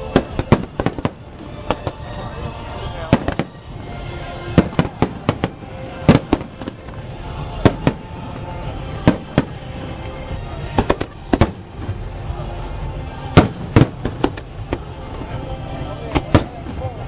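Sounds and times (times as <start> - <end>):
fireworks bangs: 0.0 - 17.0
music playing: 0.0 - 17.0.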